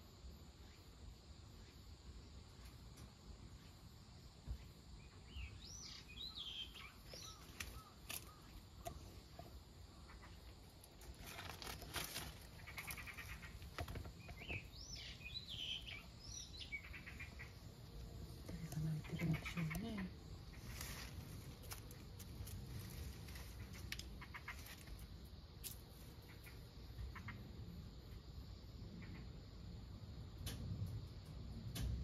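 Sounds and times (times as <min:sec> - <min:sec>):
rustle: 0:00.0 - 0:27.9
songbird singing: 0:00.0 - 0:32.0.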